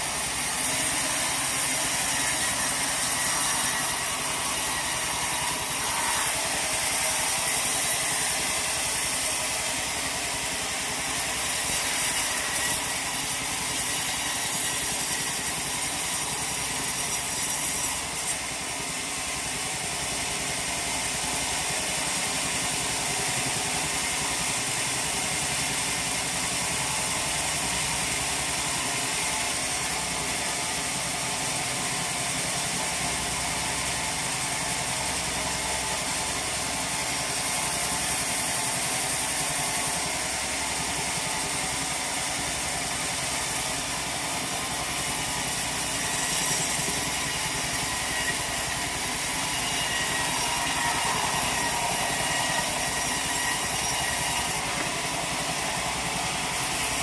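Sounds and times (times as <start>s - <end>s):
sawmill machinery clatter and hum: 0.0s - 57.0s.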